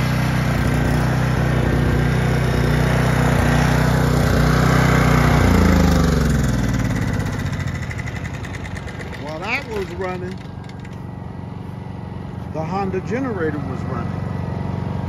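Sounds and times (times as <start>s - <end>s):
gas generator running: 0.0s - 15.0s.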